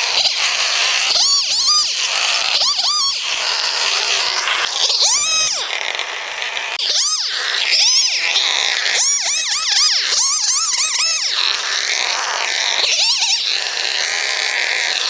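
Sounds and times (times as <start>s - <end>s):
kittens mewing: 0.0s - 15.0s.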